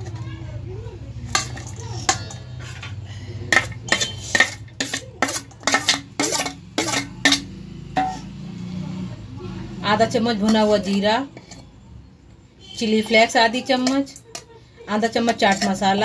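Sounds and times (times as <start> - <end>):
metal spoon clinking on steel bowls: 0.0 - 0.4, 1.1 - 8.7, 10.0 - 16.0.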